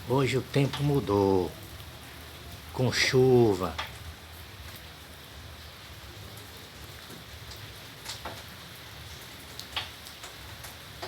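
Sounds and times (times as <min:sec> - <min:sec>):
sharp rain taps: 0:00.0 - 0:11.0
steady rain falling: 0:00.0 - 0:11.0.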